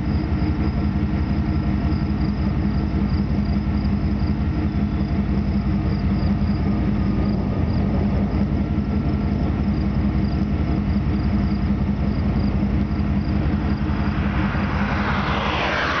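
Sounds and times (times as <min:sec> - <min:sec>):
insects chirping: 0:00.0 - 0:16.0
vehicle engine rumble: 0:00.0 - 0:16.0.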